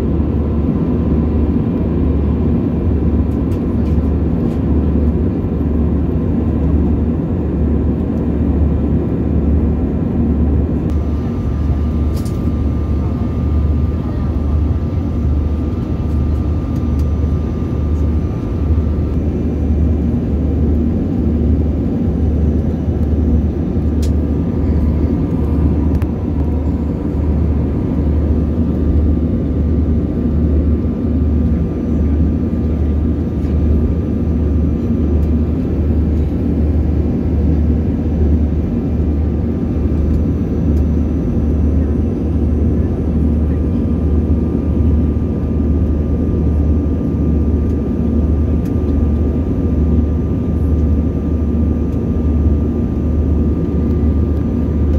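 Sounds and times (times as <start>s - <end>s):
jet airliner cabin drone: 0.0s - 54.9s.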